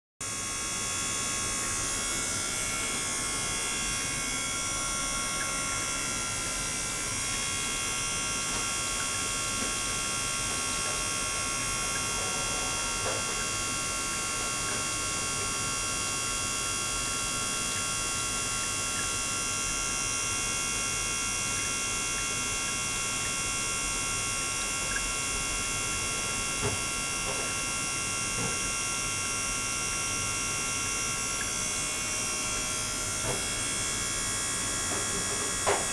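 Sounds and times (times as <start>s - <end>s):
ultrasonic tank buzzing whine: 0.2s - 35.9s.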